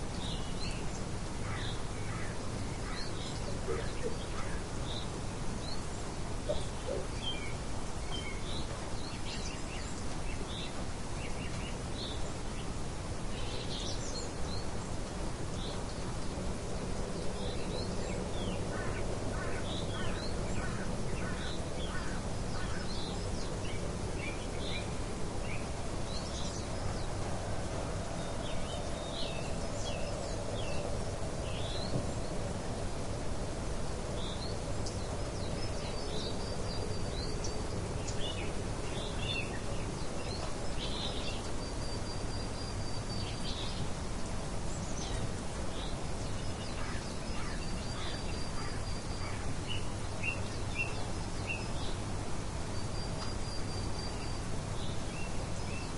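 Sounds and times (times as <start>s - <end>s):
low outdoor hum: 0.0s - 55.9s
songbirds chirping and trilling: 0.0s - 55.9s.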